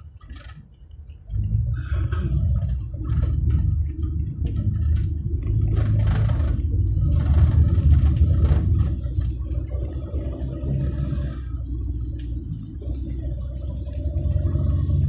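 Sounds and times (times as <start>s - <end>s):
road traffic rumble: 0.0s - 15.0s
roadworks machinery: 0.0s - 15.0s.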